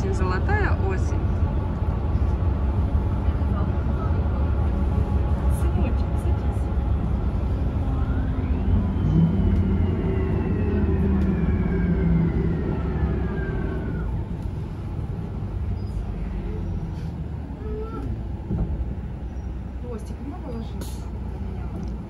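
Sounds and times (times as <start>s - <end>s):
bus engine rumble with whine: 0.0s - 22.0s.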